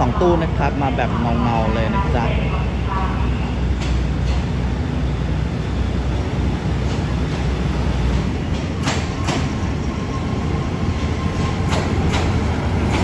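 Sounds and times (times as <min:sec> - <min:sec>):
diesel railcar rumble: 0:00.0 - 0:13.0.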